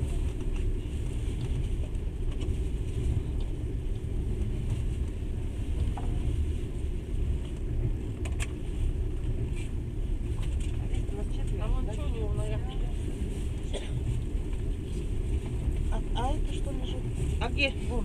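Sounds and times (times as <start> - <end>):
train rumbling inside carriage: 0.0 - 18.0.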